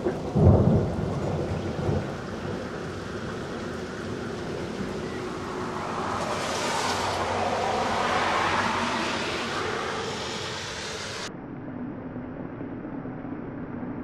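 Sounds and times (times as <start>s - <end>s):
car tyres hissing on wet road: 0.0s - 11.3s.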